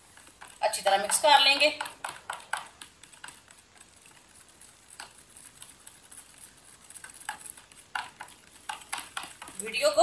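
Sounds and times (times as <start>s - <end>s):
spoon scraping plastic bowl: 0.0s - 10.0s.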